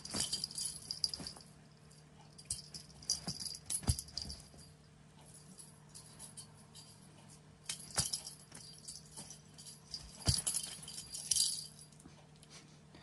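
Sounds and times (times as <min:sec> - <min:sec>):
cat toy jingling and rattling: 0:00.0 - 0:11.9.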